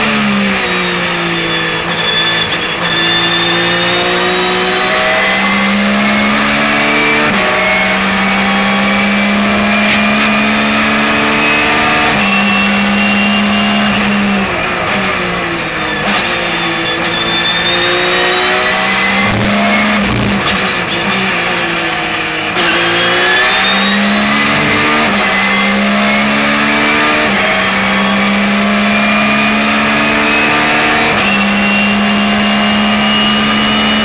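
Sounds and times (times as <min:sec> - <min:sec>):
race car engine at full throttle: 0:00.0 - 0:34.0.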